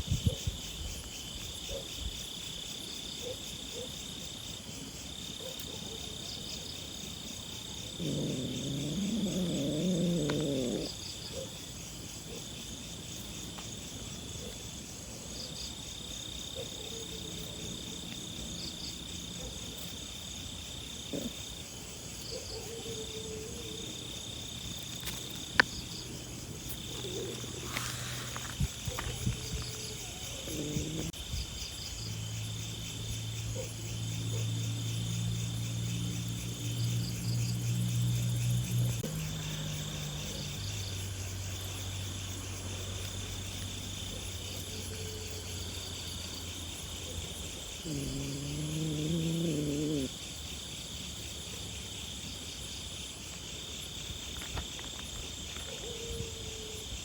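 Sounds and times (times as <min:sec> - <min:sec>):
insects chirping and trilling: 0:00.0 - 0:57.0.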